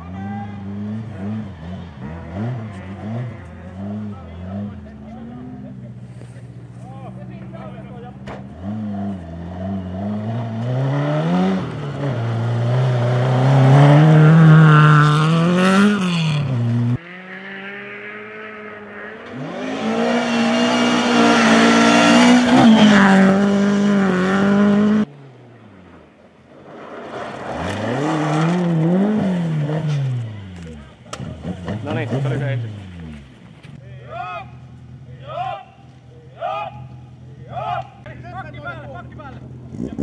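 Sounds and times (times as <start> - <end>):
rally car engines revving: 0.0 - 26.2, 26.8 - 40.0.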